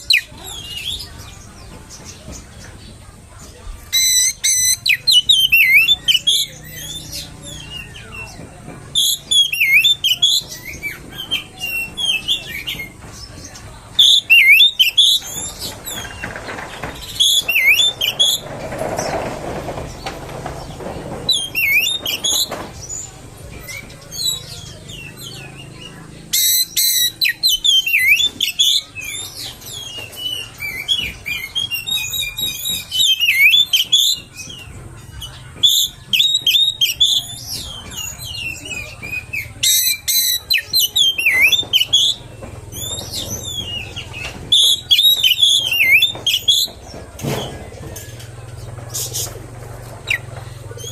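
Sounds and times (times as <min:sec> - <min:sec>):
bird singing whistled notes: 0:03.9 - 0:19.2, 0:21.3 - 0:46.8.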